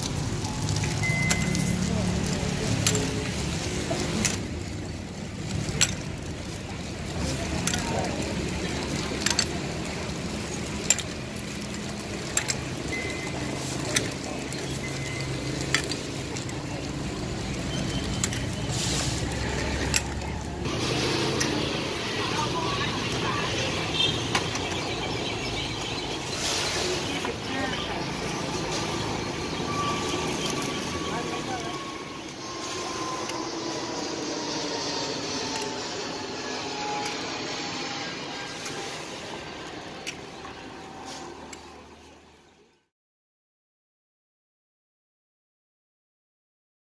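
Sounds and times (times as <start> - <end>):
street market hubbub: 0.0 - 42.9.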